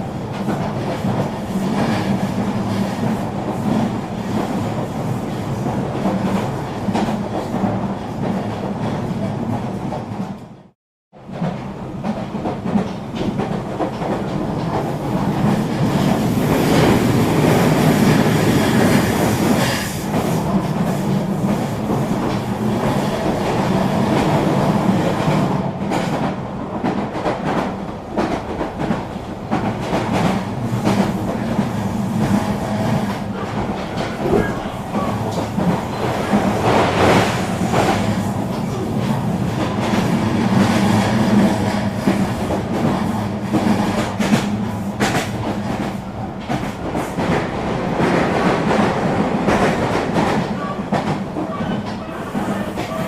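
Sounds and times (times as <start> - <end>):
train rumbling on track: 0.0 - 53.0.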